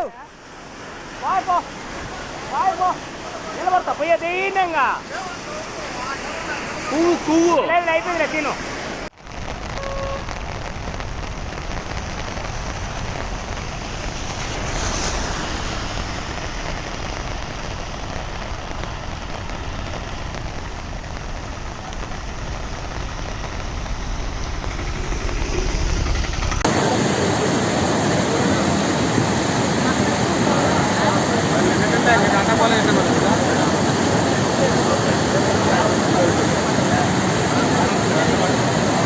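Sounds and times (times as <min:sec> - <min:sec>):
heavy rain: 0:00.0 - 0:39.0
rushing floodwater: 0:00.0 - 0:39.0.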